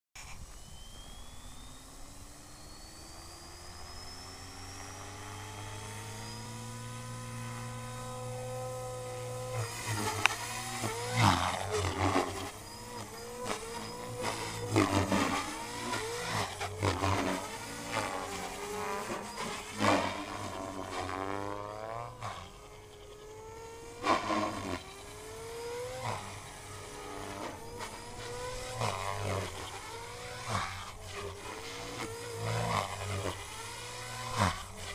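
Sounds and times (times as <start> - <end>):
helicopter motor and rotor whine: 0.2 - 34.9
rotor blade whooshes: 2.4 - 34.9.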